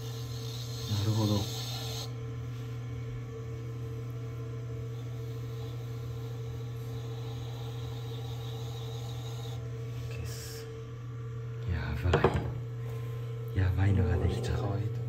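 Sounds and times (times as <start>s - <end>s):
potter's wheel humming: 0.0s - 15.0s.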